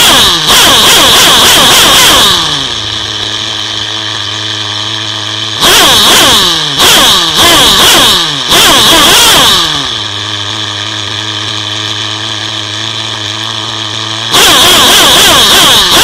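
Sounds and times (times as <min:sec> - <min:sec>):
small two-stroke engine revving: 0:00.0 - 0:16.0.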